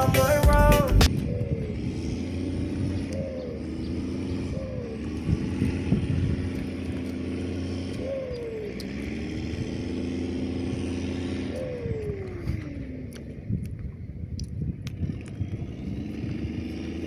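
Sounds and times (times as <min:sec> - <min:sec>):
motor engine humming: 0:00.0 - 0:17.0.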